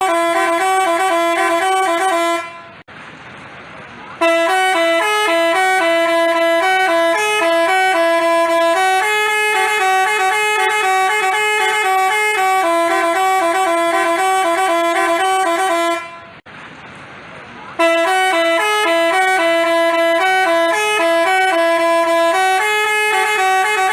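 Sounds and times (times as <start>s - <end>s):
multi-tone bus horn melody: 0.0s - 2.9s, 4.2s - 16.5s, 17.8s - 23.9s.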